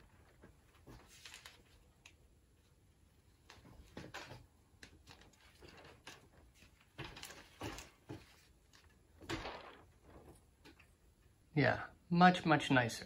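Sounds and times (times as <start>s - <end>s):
parchment paper rustling: 0.0s - 11.0s.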